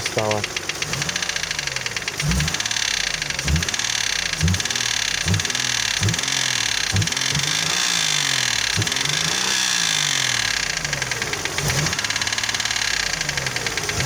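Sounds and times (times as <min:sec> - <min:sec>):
engine revving: 0:00.0 - 0:14.0
fast metallic engine knocking: 0:00.0 - 0:14.0.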